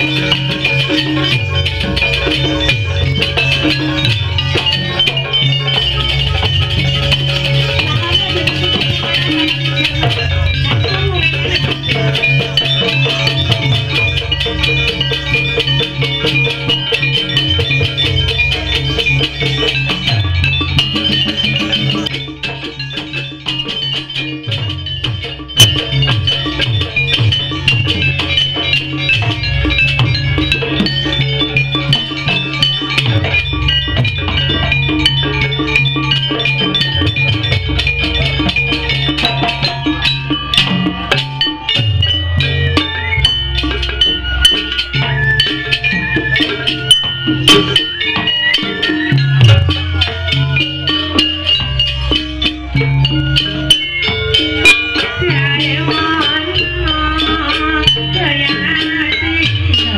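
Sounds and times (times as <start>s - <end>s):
drums: 0.0s - 59.9s
fast pitched melody: 0.0s - 59.9s
live ensemble music: 0.0s - 59.9s
sharp percussion hits: 0.0s - 59.9s.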